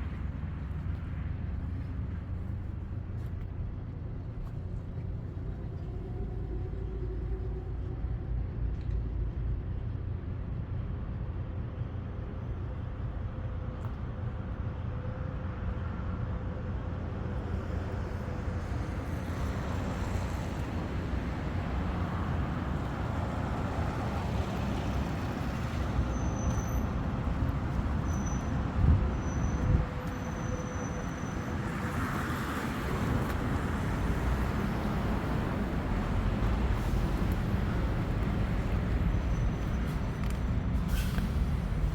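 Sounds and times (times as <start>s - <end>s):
traffic rumble: 0.0s - 41.9s.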